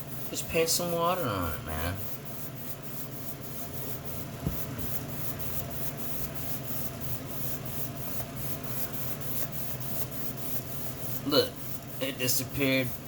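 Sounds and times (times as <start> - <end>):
paintbrush scrubbing drywall: 0.0 - 13.0.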